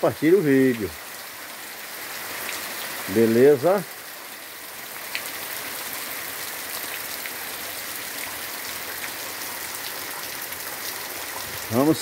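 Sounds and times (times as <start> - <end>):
rain on grass and leaves: 0.0 - 12.0.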